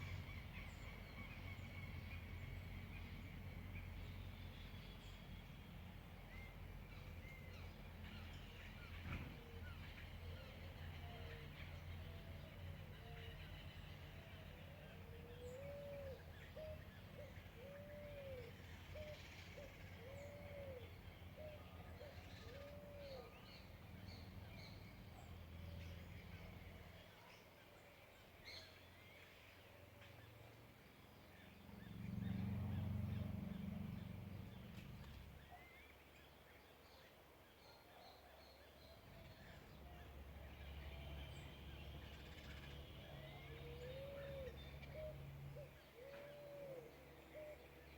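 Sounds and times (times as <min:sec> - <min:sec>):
birds with repeated arched calls: 0:00.0 - 0:47.9.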